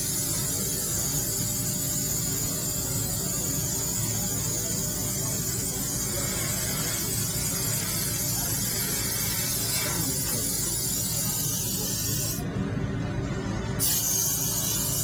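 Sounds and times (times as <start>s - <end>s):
laser cutting machine hissing: 0.0s - 12.5s, 13.8s - 15.0s.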